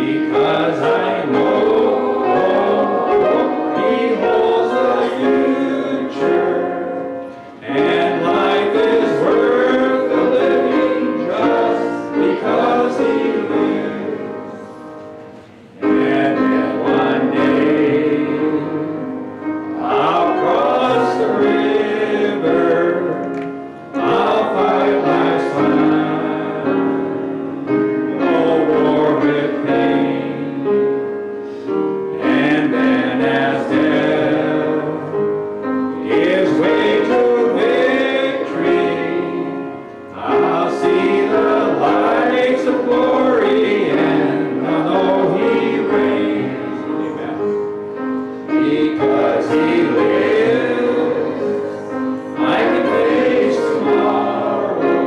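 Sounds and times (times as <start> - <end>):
group singing a hymn: 0.0 - 55.0
piano accompaniment: 0.0 - 55.0.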